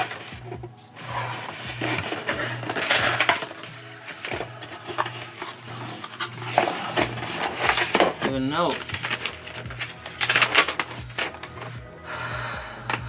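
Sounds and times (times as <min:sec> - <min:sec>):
paper and plastic rustling tearing: 0:00.0 - 0:12.2
background music: 0:00.0 - 0:13.0.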